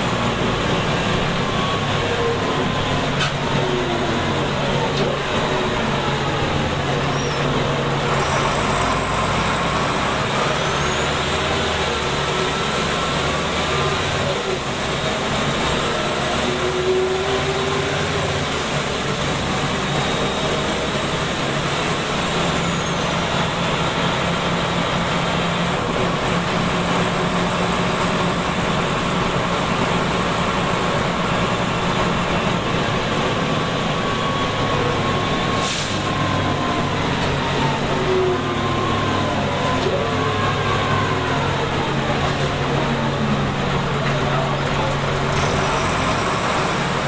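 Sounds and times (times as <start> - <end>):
bus diesel engine running: 0.0 - 47.0
road noise: 0.0 - 47.0.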